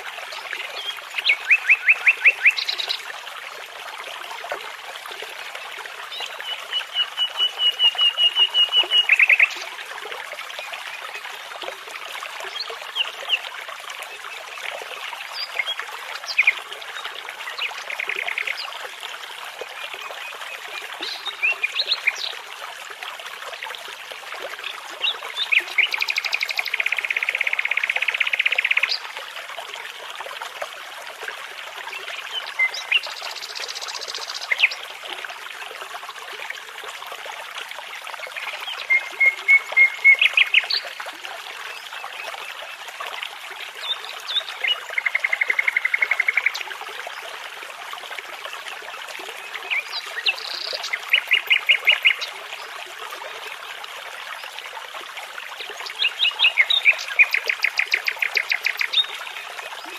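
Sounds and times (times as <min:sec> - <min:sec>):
babbling brook: 0:00.0 - 0:59.9.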